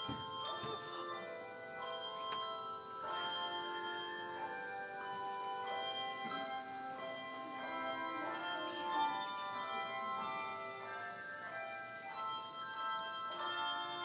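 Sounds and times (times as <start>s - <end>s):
handbell choir playing: 0.0s - 14.0s.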